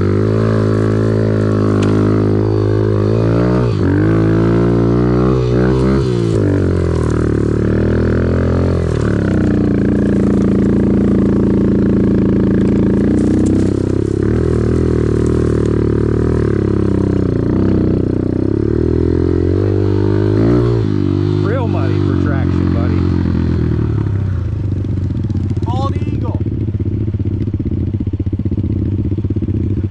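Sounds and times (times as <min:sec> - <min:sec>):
off-road vehicle engine revving: 0:00.0 - 0:27.3.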